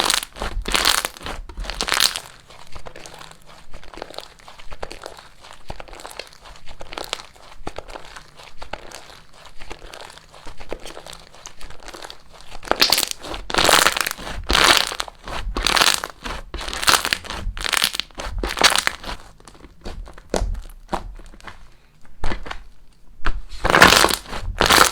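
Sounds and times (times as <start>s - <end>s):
crunchy slime squeeze: 0.0s - 21.6s, 23.6s - 24.9s
slime crackling: 0.0s - 22.8s, 23.6s - 24.9s.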